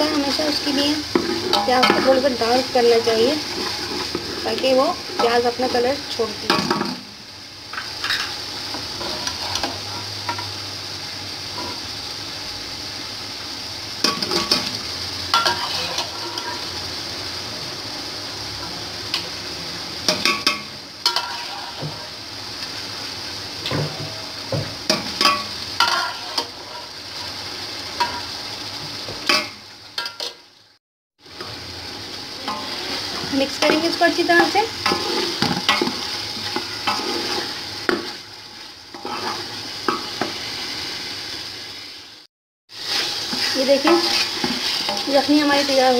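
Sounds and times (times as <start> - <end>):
meat sizzling in hot oil: 0.0 - 45.9.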